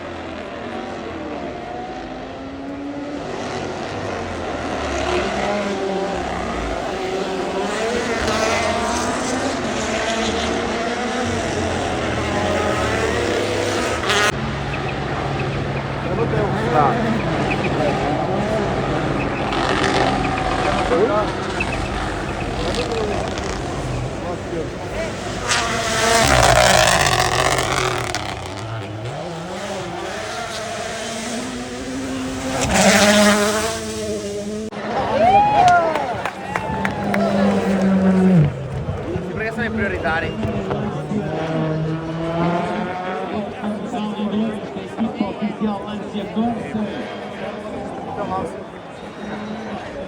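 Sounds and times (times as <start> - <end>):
rally car engine passing: 0.0 - 50.0.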